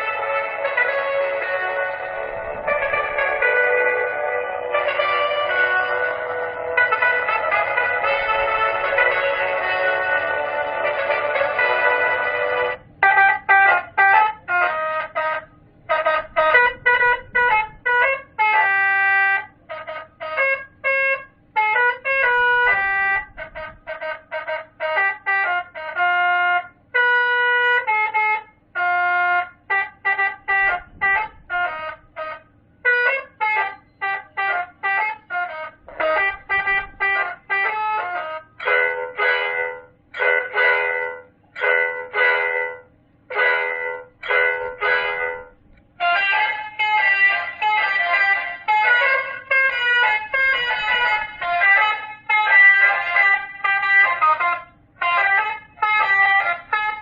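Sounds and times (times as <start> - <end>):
horn tooting melodies: 0.0 - 57.0.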